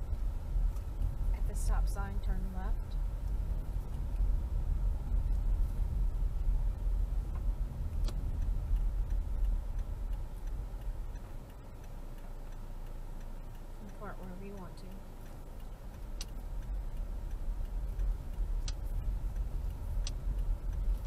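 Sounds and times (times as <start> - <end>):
car engine rumble from inside: 0.0 - 21.0.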